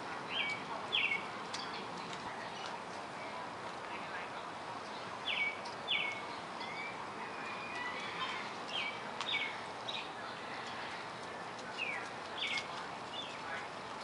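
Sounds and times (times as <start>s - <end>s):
outdoor background noise: 0.0s - 14.0s
wild birds chirping: 0.0s - 14.0s.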